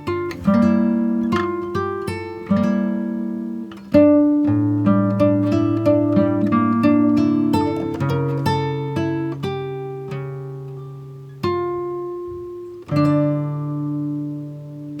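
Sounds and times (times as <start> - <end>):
slow acoustic guitar: 0.0 - 15.0.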